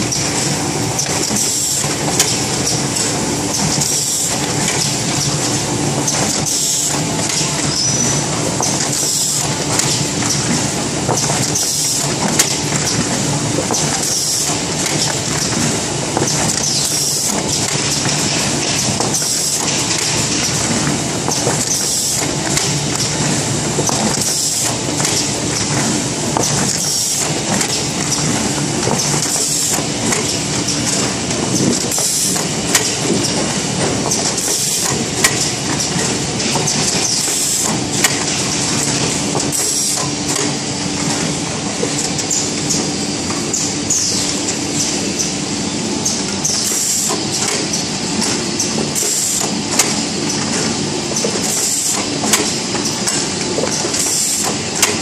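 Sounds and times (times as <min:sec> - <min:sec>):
machine clattering with low hum: 0:00.0 - 0:55.0
machine clicks: 0:00.1 - 0:45.4, 0:46.0 - 0:55.0.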